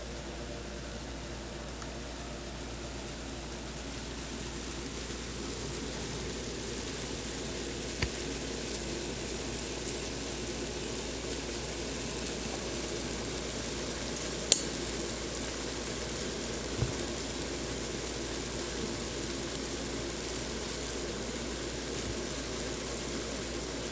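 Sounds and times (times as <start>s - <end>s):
mealworms crackling in grain: 0.9s - 23.9s.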